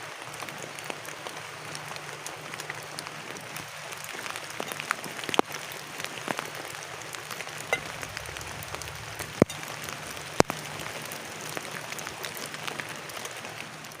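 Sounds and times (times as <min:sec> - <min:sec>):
rain on a plastic tarp: 0:00.0 - 0:14.0.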